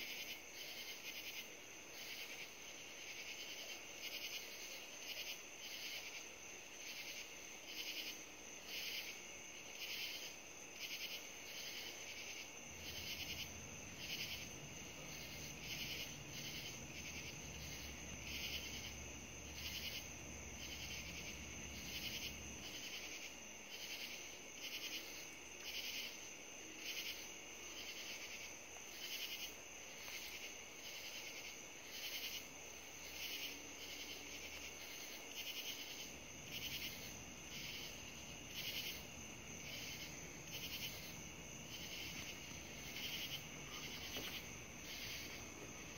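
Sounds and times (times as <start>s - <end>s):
night insects chirping: 0.0s - 45.9s.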